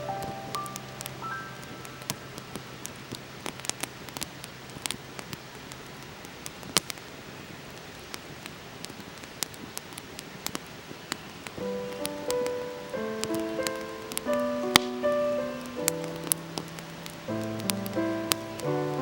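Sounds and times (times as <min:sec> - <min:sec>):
wood campfire crackling: 0:00.0 - 0:19.0.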